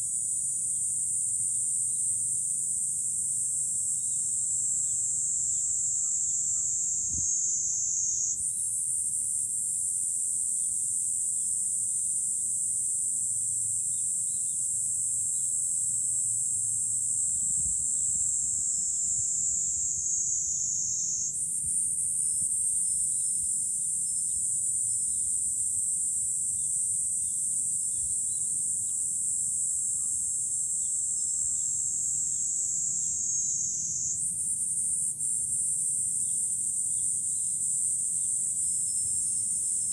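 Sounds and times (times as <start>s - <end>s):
cicada chorus buzzing: 0.1s - 39.9s.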